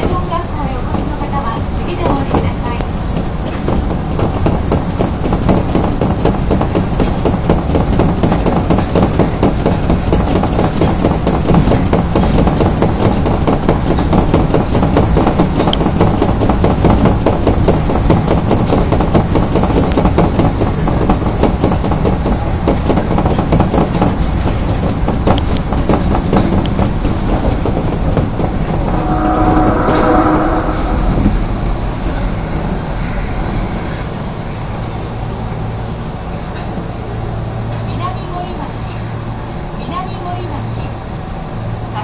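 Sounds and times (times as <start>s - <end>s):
rail clicks: 0.0s - 37.0s
train wheels rumbling: 0.0s - 42.0s.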